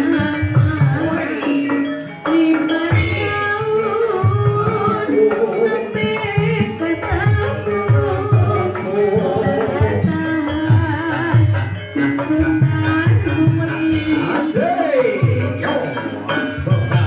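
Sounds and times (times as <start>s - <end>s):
hand drum strokes: 0.0s - 17.0s
wavering melody: 0.0s - 17.0s.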